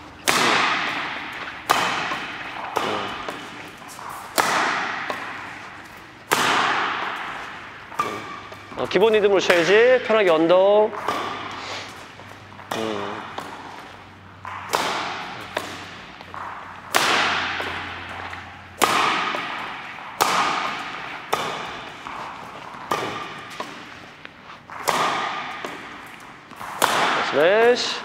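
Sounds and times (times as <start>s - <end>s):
badminton racket hitting shuttlecock: 0.0s - 28.0s.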